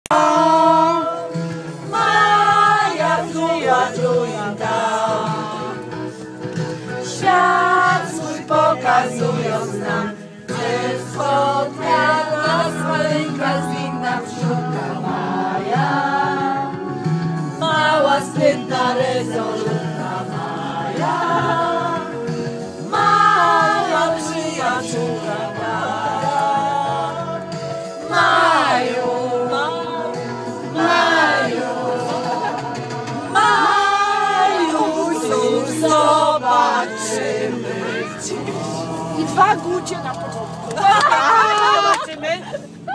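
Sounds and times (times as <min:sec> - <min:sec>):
women singing together: 0:00.1 - 0:06.1, 0:06.9 - 0:42.9.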